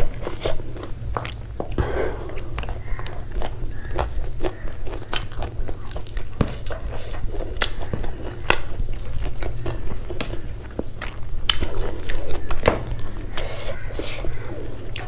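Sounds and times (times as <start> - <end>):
low steady hum: 0.0 - 15.0
person chewing food: 0.0 - 15.0.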